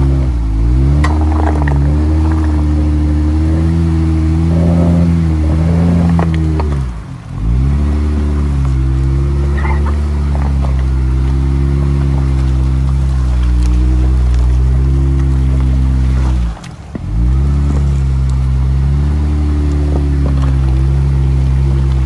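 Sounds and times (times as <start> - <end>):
engine pulling under load: 0.0 - 22.0.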